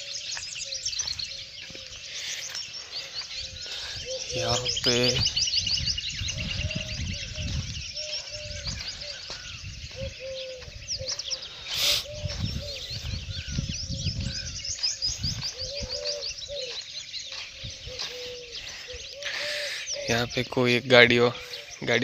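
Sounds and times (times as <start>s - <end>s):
doves cooing: 0.0s - 22.0s
small birds chirping: 0.0s - 22.0s.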